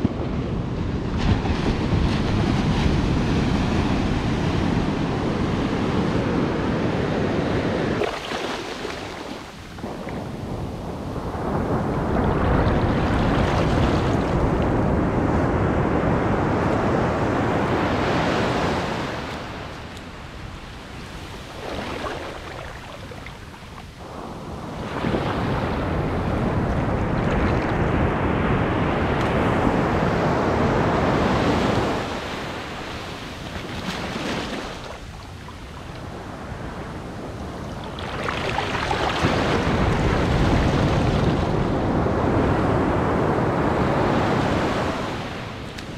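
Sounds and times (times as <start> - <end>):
ocean surf washing over sand: 0.0 - 45.9.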